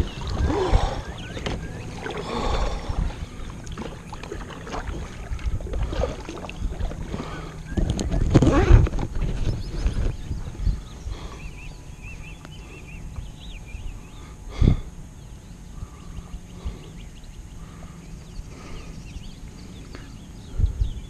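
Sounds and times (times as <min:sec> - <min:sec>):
low rumbling background: 0:00.0 - 0:21.0.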